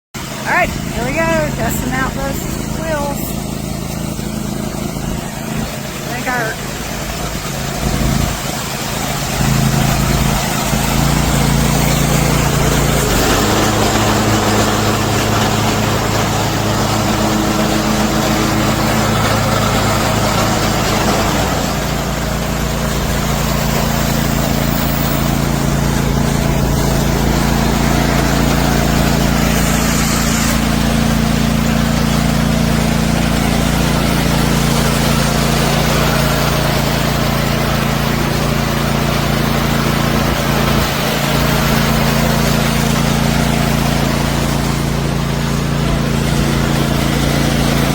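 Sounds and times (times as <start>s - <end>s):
riding lawn mower engine: 0.2s - 47.9s.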